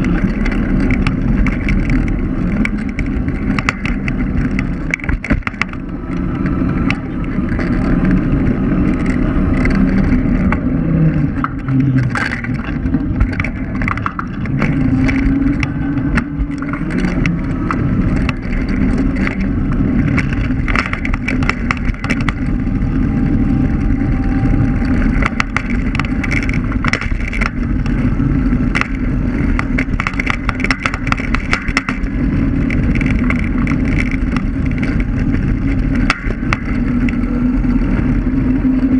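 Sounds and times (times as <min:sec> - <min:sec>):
rumble of tyres on road: 0:00.0 - 0:38.9
scooter rattling over bumps: 0:00.0 - 0:38.9.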